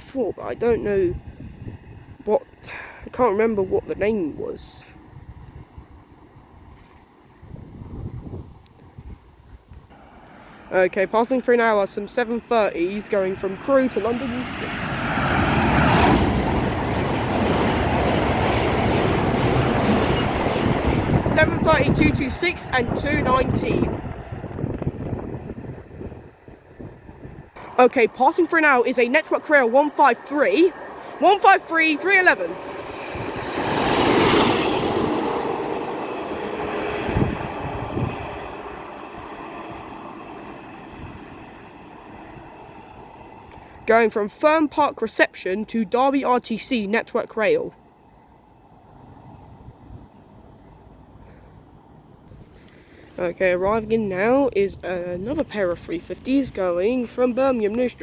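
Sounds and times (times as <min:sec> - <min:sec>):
train passing at speed: 0:00.0 - 0:58.0.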